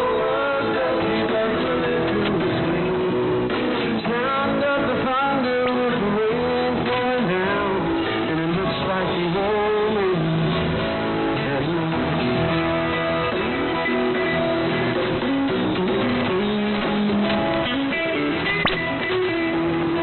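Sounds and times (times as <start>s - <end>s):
muffled guitar music on radio: 0.0s - 20.0s.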